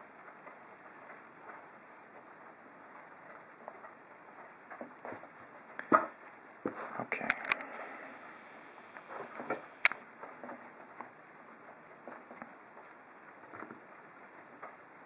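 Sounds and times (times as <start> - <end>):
faint rustling: 0.0 - 15.0.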